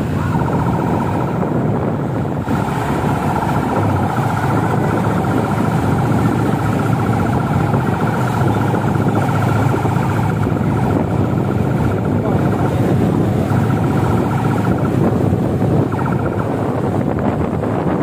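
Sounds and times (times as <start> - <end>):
road noise: 0.0 - 18.0
vehicle engines pulsing: 0.0 - 18.0.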